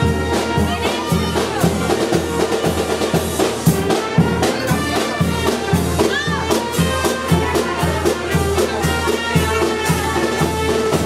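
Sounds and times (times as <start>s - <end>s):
brass band playing a march: 0.0s - 11.0s
steady drum beat: 0.0s - 11.0s
trumpets: 0.0s - 11.0s.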